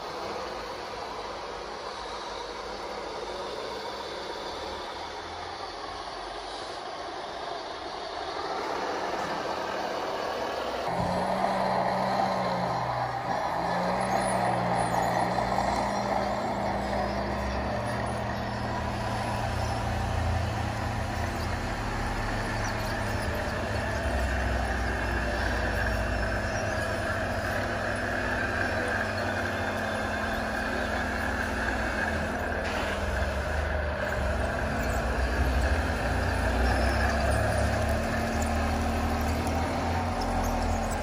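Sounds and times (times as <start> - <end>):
model truck engine rumble: 0.0 - 41.0.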